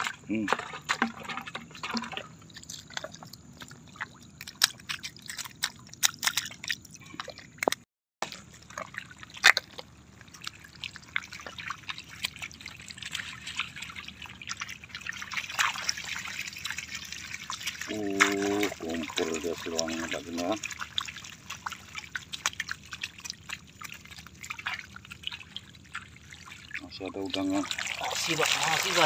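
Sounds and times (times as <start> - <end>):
water dripping and splashing: 0.0 - 29.0.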